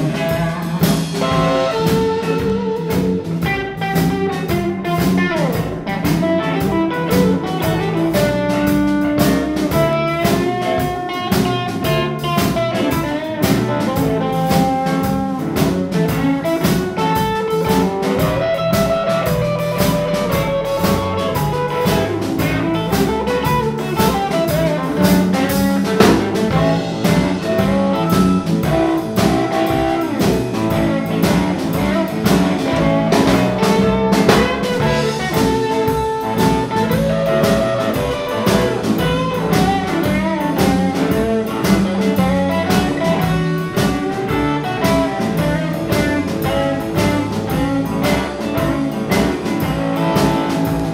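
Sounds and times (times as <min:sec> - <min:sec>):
drum kit beat: 0:00.0 - 0:50.9
electric bass: 0:00.0 - 0:50.9
lead electric guitar: 0:00.0 - 0:50.9.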